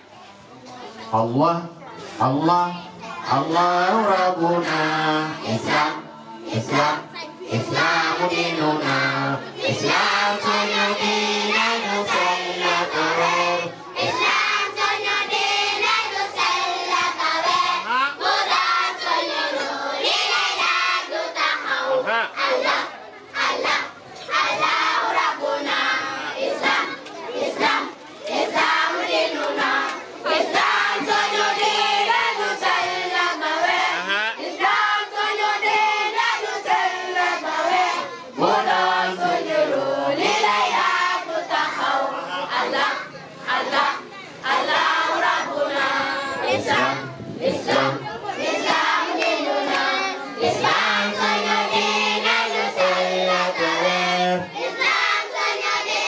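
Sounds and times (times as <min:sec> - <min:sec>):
children chanting and singing: 0:01.8 - 0:56.0.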